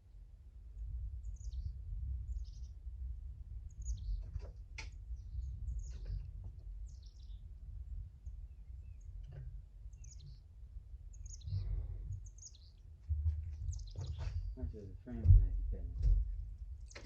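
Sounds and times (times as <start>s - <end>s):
steady low rumble: 0.0s - 17.0s
small birds chirping: 0.8s - 2.9s, 3.6s - 17.0s.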